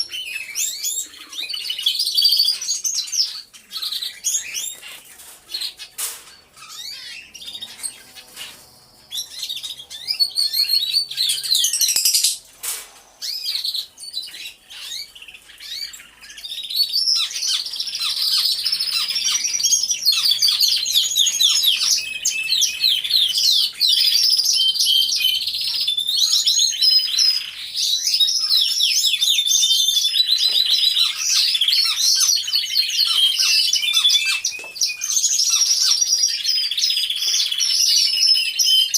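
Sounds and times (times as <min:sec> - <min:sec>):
canaries trilling and warbling: 0:00.0 - 0:38.9.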